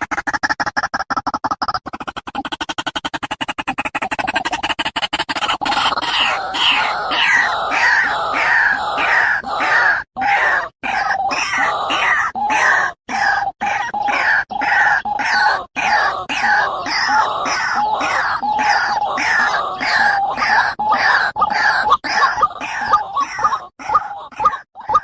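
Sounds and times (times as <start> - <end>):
bird squawking harshly: 3.3 - 25.0.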